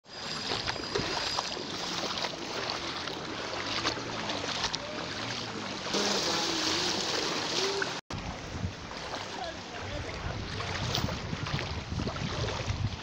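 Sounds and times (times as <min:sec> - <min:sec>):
bicycle wheel through water: 0:00.0 - 0:13.0
feet wading through water: 0:00.0 - 0:13.0.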